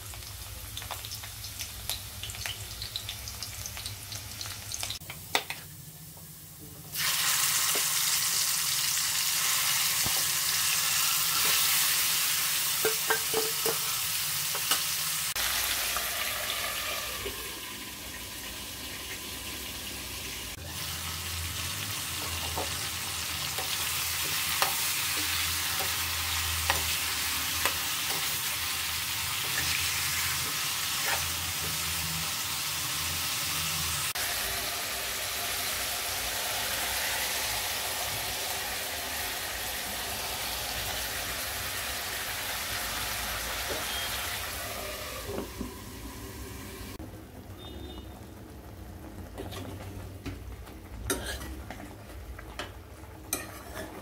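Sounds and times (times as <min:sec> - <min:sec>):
chicken sizzling in hot oil: 0:00.0 - 0:05.0, 0:06.9 - 0:54.0.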